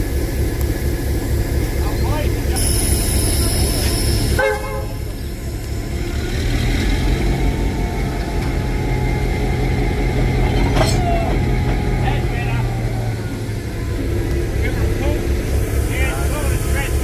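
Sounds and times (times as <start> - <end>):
constant hum: 0.0 - 17.0
heavy engine rumbling: 0.0 - 17.0.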